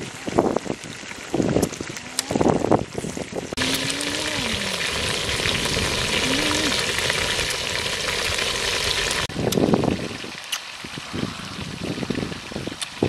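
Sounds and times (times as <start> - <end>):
frogs sizzling in hot oil: 0.0 - 11.0.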